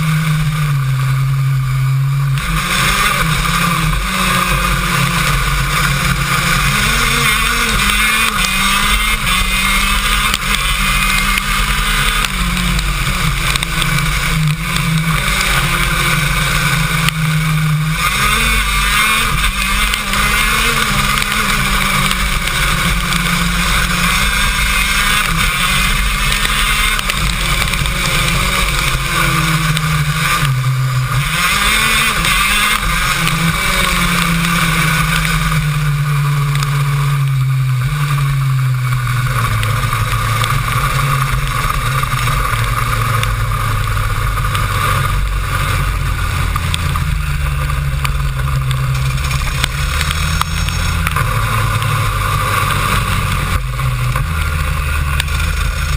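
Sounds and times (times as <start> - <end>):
kart two-stroke engine racing: 0.0 - 55.9.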